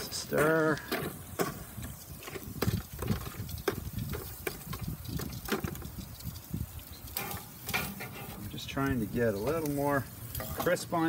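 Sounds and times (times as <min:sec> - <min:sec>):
metal tongs scraping foil pan: 0:00.0 - 0:11.0.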